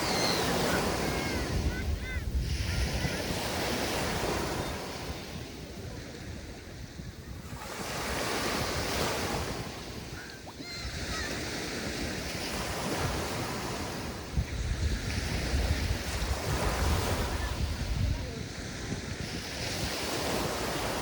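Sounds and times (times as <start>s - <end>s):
sea waves breaking on shore: 0.0s - 21.0s
wind buffeting microphone: 0.0s - 21.0s.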